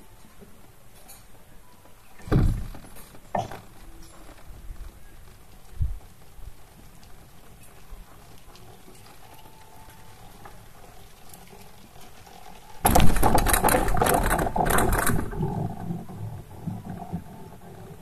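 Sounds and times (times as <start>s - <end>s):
faint steady hum: 0.0s - 18.0s
chairlift rattling rumble over pylon: 2.2s - 9.4s, 10.1s - 18.0s.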